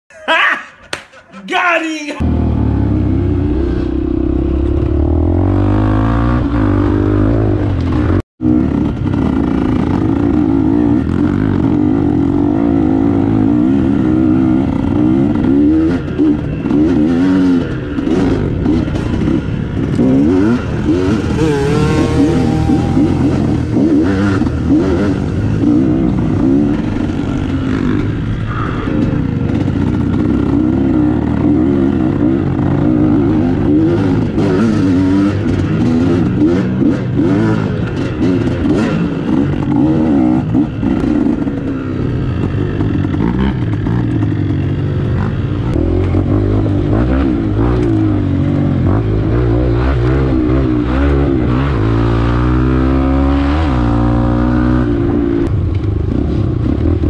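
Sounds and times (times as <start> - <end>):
motorcycle engines revving: 2.2 - 57.0.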